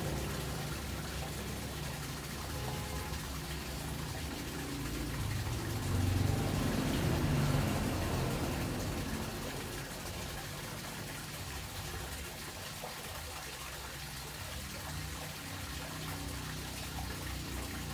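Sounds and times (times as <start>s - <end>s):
aquarium water running: 0.0s - 17.9s.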